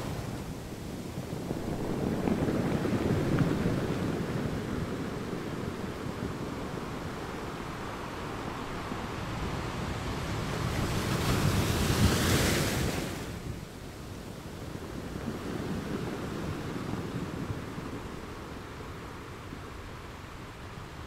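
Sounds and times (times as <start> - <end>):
small waves washing onto sand: 0.0 - 21.0
wind on microphone: 0.0 - 21.0.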